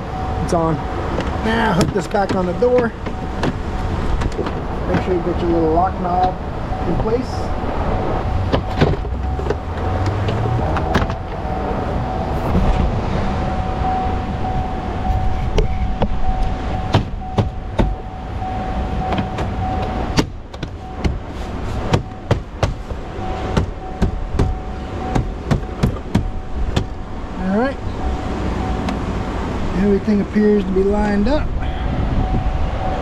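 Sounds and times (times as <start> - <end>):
steady low rumble: 0.0 - 33.0
thin steady whine: 0.0 - 33.0.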